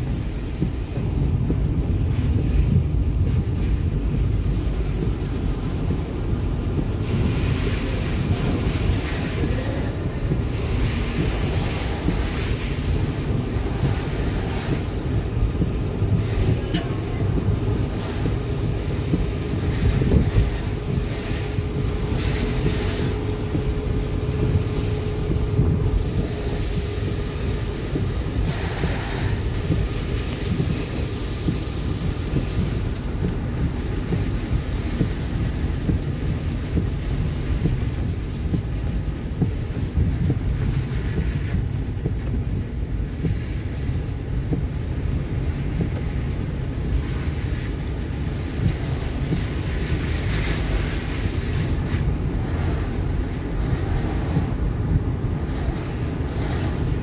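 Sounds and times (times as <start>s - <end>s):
car tyres on wet road: 0.0s - 57.0s.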